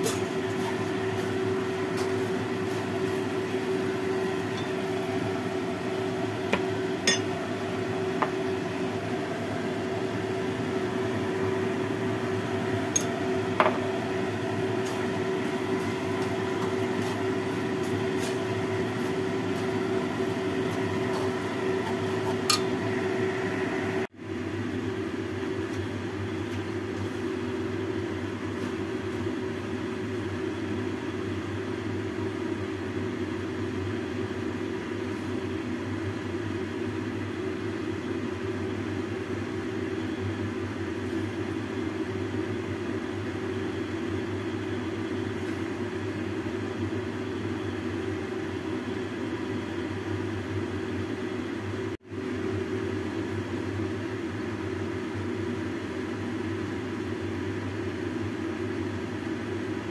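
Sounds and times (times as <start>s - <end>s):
fan motor whirring hum: 0.0s - 59.9s.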